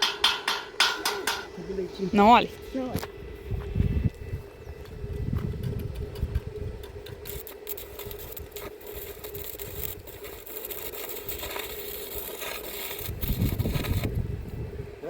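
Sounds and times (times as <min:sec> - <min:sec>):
welding arc crackling: 0:00.0 - 0:15.0
welding hum: 0:00.0 - 0:15.0.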